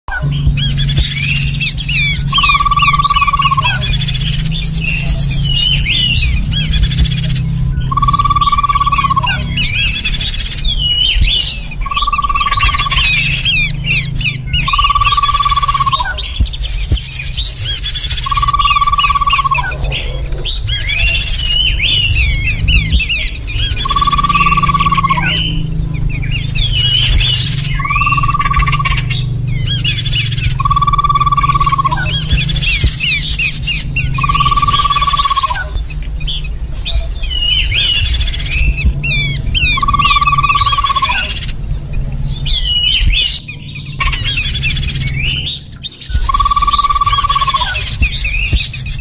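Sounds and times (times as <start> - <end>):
birds chattering and twittering: 0.0 - 49.0
low hum: 0.0 - 49.0
bird whistle: 0.1 - 35.8, 36.4 - 41.6, 42.5 - 49.0.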